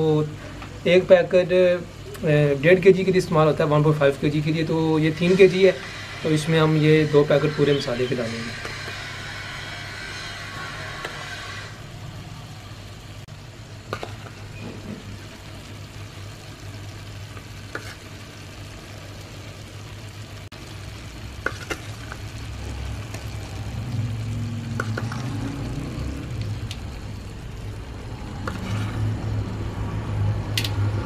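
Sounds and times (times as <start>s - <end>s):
faint sizzling: 0.0s - 31.0s.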